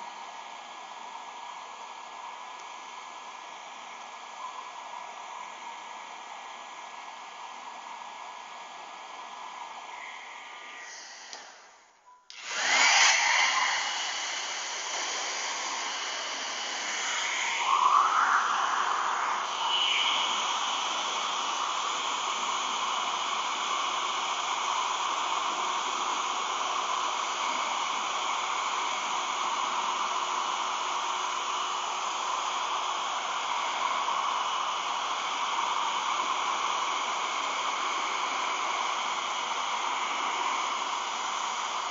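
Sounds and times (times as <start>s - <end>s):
hair dryer blowing: 7.7s - 11.7s, 12.3s - 41.9s.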